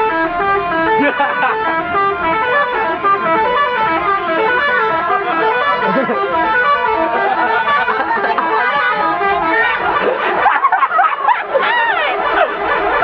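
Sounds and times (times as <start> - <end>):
multi-tone musical bus horn: 0.0 - 13.0.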